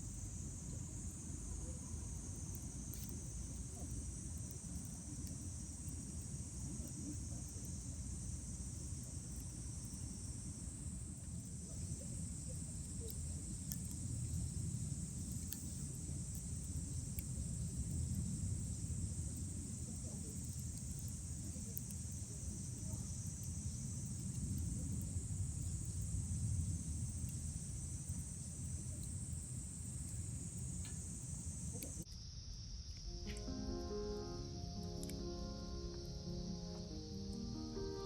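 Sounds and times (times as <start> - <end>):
campfire burning and crackling: 0.0 - 32.0
night insects chirping: 0.0 - 38.0.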